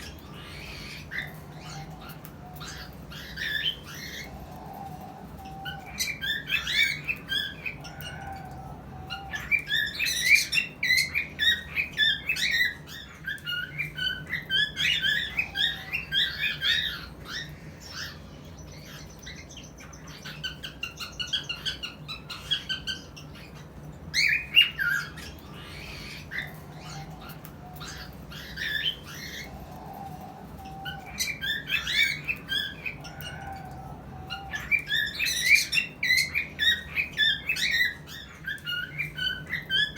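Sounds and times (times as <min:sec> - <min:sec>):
cockatiels chirping and squawking: 0:00.0 - 0:39.9.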